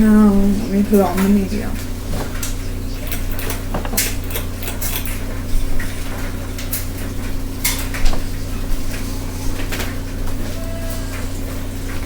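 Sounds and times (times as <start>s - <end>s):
ceiling fan motor hum: 0.0s - 12.0s
wobbling fan rattle: 0.0s - 12.0s.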